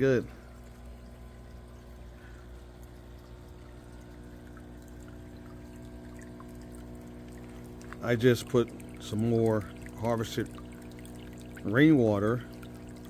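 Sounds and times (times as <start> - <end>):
low steady hum: 0.0 - 13.0
water pouring into tank: 0.0 - 13.0.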